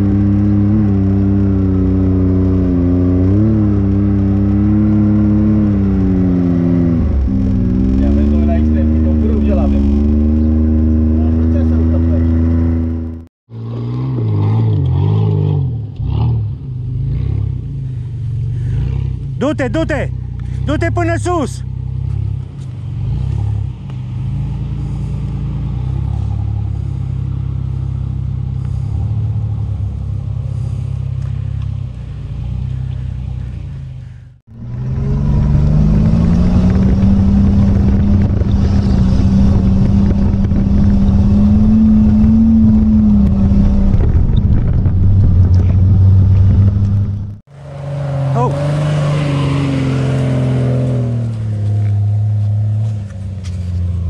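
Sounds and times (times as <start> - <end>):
loud nearby engine: 0.0 - 44.2, 44.8 - 54.0.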